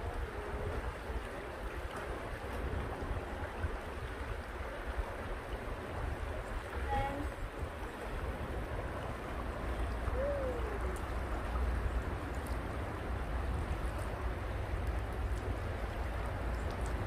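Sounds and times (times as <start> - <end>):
river flowing over rocks: 0.0 - 17.0.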